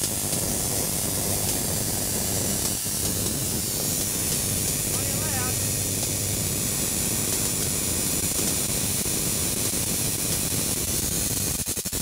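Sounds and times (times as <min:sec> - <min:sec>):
electric arc crackling: 0:00.0 - 0:12.0.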